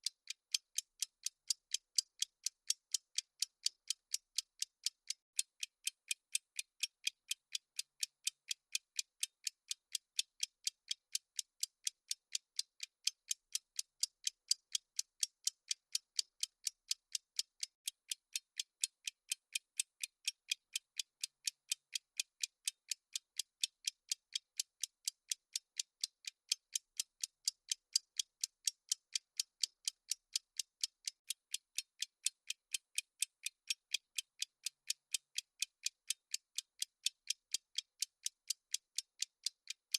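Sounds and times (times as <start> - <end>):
fast high-pitched clock ticks: 0.0 - 39.9.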